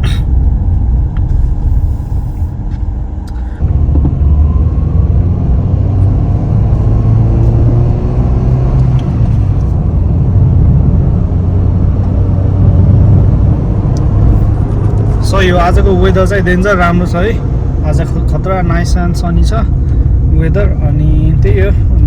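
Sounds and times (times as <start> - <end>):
vehicle engine and road rumble: 0.0 - 22.0.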